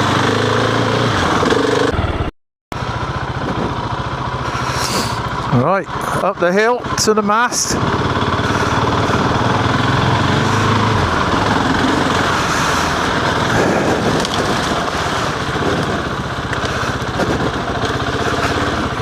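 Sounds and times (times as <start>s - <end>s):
motorcycle engine under load: 0.0s - 19.0s.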